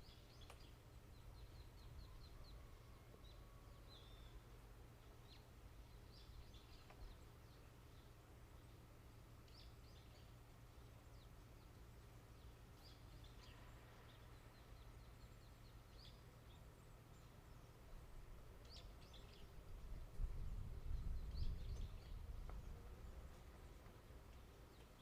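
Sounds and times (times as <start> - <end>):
small birds chirping: 0.0 - 2.5, 3.3 - 25.0.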